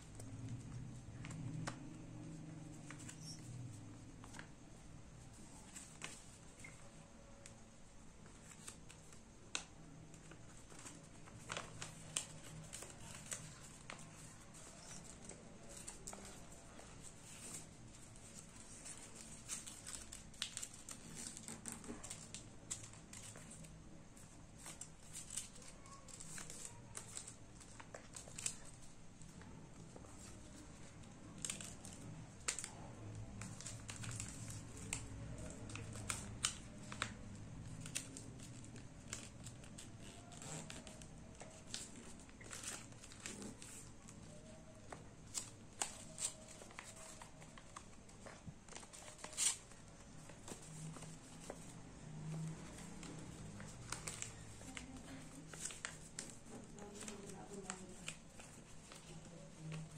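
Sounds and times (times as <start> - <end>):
paper crinkling while folded: 0.0 - 7.6, 8.2 - 59.9.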